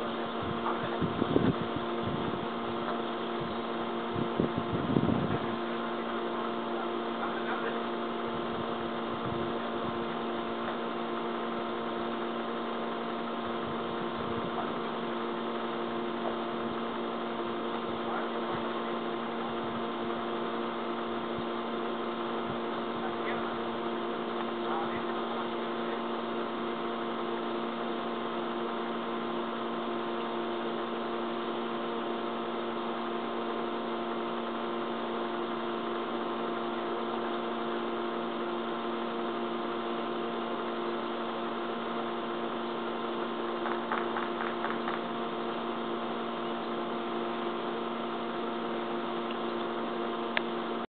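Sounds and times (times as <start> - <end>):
constant hiss: 0.0 - 50.9
steady hum of fixed tones: 0.0 - 50.9.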